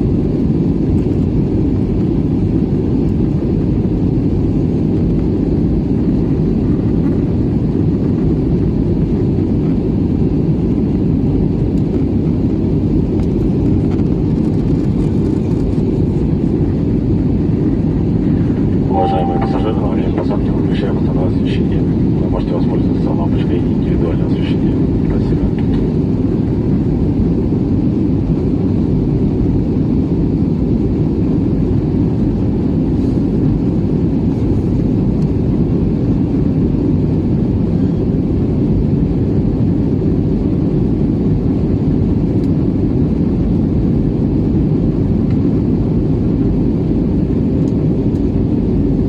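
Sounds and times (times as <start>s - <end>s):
aircraft cabin engine roar: 0.0s - 49.0s.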